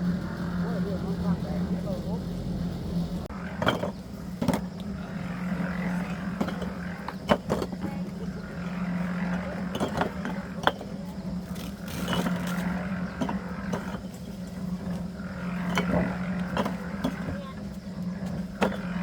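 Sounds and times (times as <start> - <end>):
engine humming: 0.0 - 19.0
knocks and clinks of work: 3.2 - 19.0.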